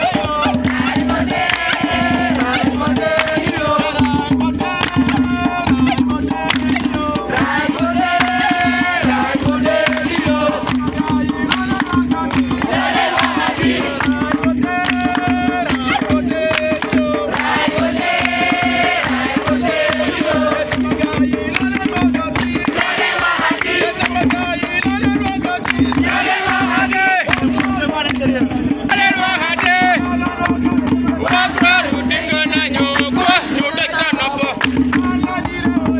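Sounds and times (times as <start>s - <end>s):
fast hand-drum rhythm: 0.0s - 35.9s
people singing: 0.0s - 35.9s.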